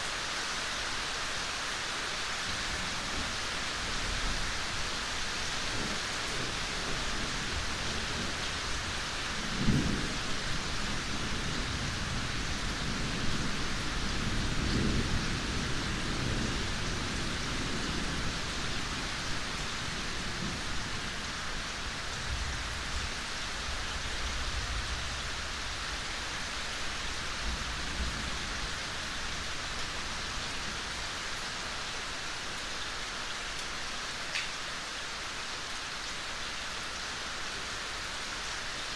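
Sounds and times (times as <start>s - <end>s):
steady rain in forest: 0.0s - 38.9s.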